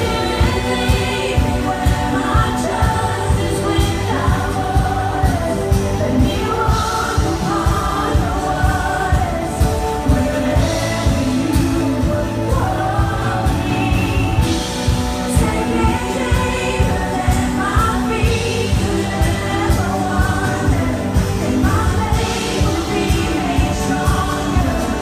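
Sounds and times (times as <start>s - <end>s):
person singing: 0.0s - 25.0s
worship band playing: 0.0s - 25.0s.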